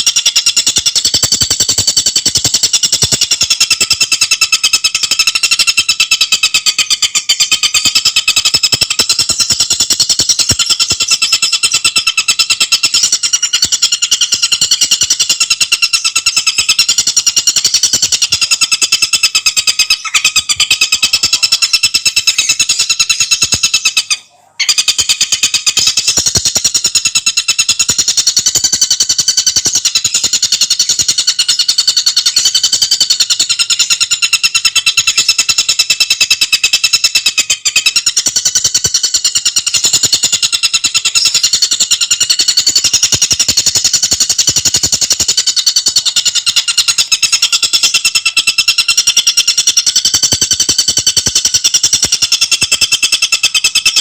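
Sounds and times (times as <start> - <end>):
bird rattling trill: 0.0 - 54.0.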